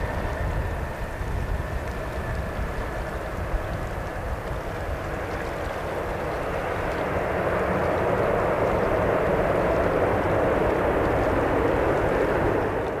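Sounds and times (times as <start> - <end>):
distant jet engine rushing: 0.0 - 13.0.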